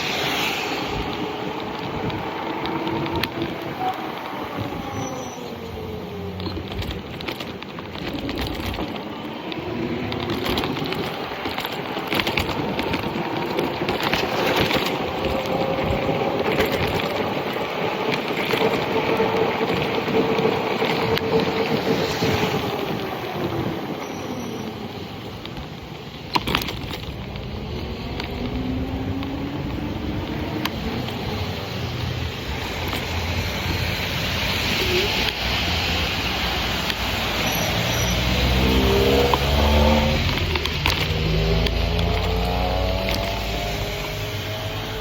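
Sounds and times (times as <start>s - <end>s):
steady rushing noise: 0.0s - 45.0s.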